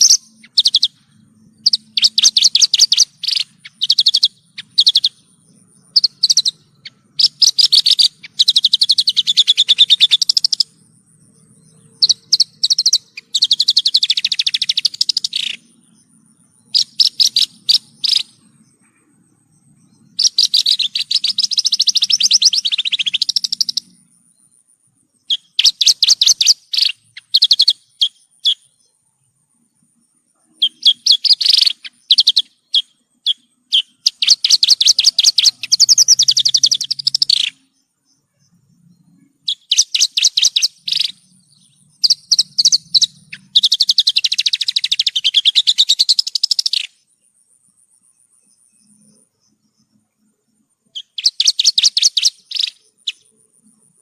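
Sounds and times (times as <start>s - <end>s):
lark singing chattering notes: 0.0s - 29.0s, 29.6s - 54.0s.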